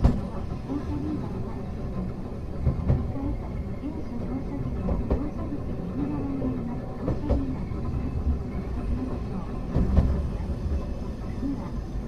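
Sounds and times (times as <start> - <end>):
tram running rumble: 0.0 - 12.0.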